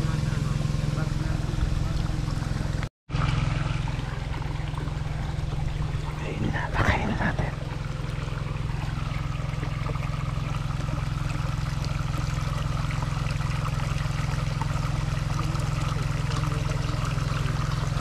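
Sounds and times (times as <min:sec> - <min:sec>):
water pouring: 0:01.4 - 0:18.0.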